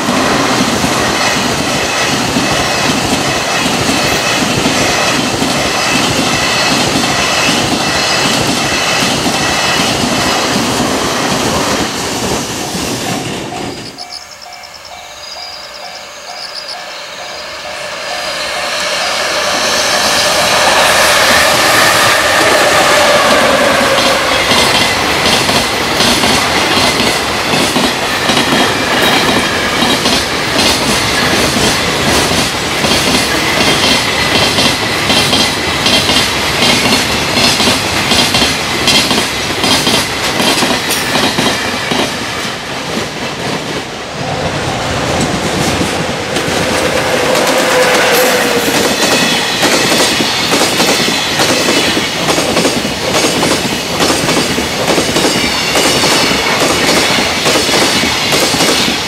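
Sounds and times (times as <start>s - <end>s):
freight train clickety-clack: 0.0s - 59.0s.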